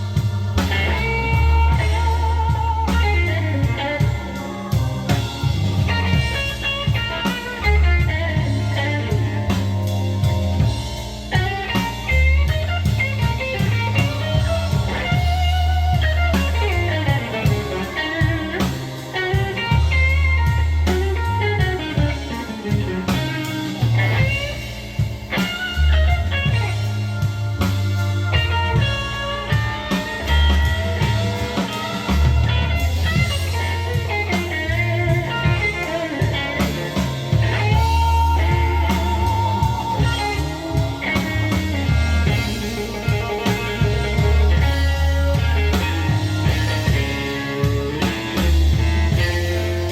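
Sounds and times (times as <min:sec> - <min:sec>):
bass line: 0:00.0 - 0:49.9
blues guitar solo: 0:00.0 - 0:49.9
drum kit: 0:00.0 - 0:49.9.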